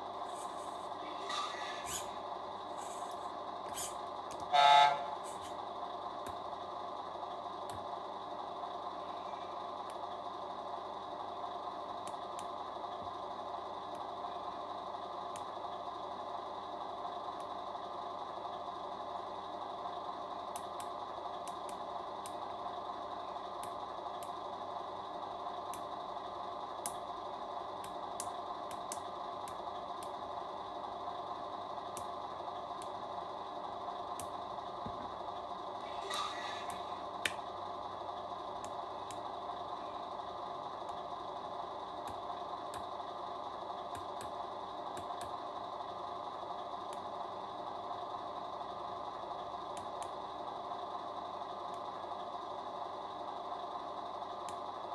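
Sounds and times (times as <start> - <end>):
diesel engine idle through speaker: 0.0 - 54.9.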